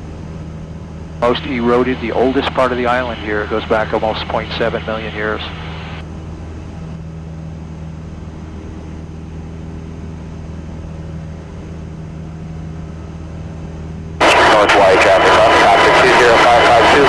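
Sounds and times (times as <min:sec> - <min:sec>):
airplane engine droning in cabin: 0:00.0 - 0:17.0.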